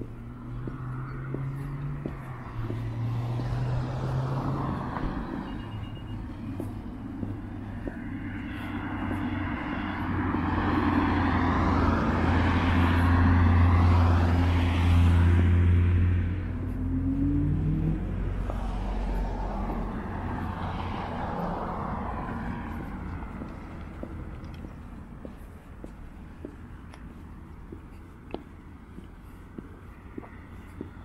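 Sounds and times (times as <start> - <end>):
vehicle engine hum: 0.0 - 31.0.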